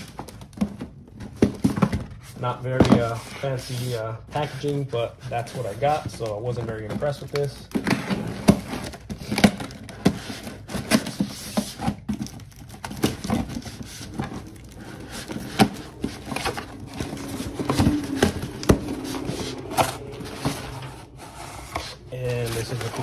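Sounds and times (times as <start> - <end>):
cardboard crackling and scraping: 0.0 - 23.0.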